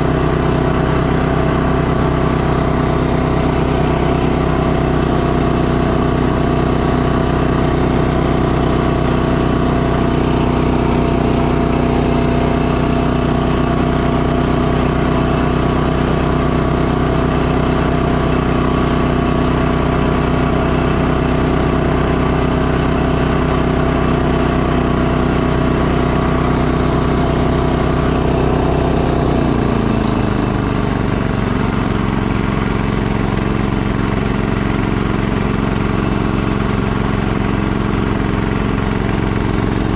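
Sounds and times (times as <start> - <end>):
snowblower engine running: 0.0 - 39.9
snowblower throwing snow: 0.0 - 39.9.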